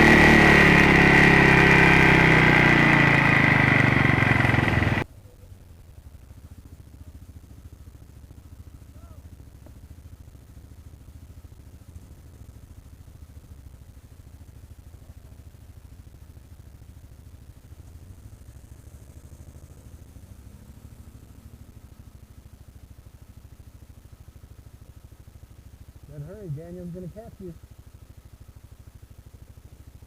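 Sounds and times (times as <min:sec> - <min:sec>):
atv engine idling low: 0:00.0 - 0:30.0.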